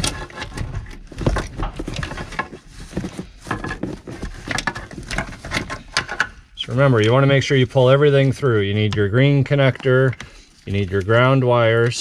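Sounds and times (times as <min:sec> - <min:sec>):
wires rustling and scraping: 0:00.0 - 0:12.0.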